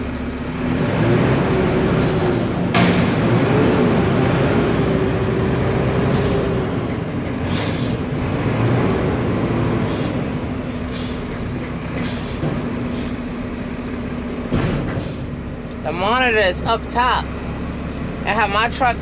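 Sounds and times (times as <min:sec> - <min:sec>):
garbage truck running: 0:00.0 - 0:19.0
hydraulics whining: 0:00.0 - 0:19.0.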